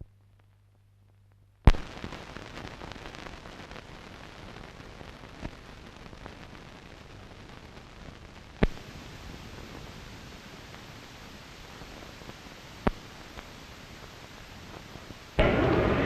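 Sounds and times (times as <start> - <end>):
film soundtrack hiss and crackle: 0.0 - 16.0.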